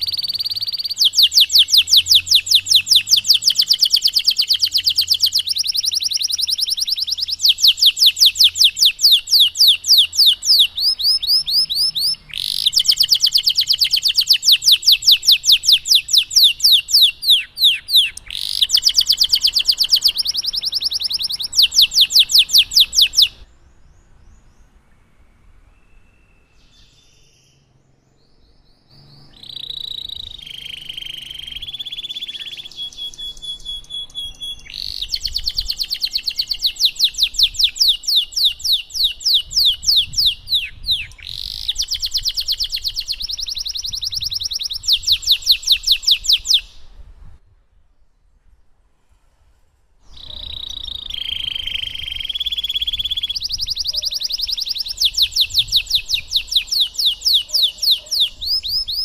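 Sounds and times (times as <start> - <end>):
canary singing rapid trills: 0.0 - 23.5, 28.9 - 46.8, 50.1 - 59.0.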